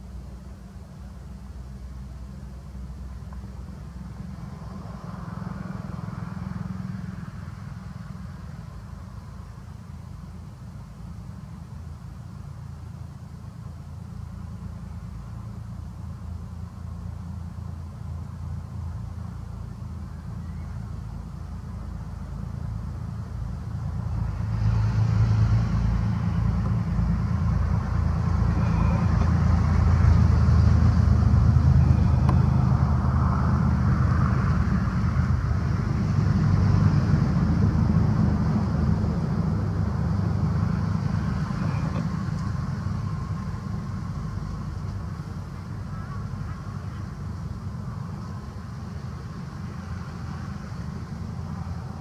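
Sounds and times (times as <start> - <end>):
passing vehicle engine rumble: 0.0 - 52.0.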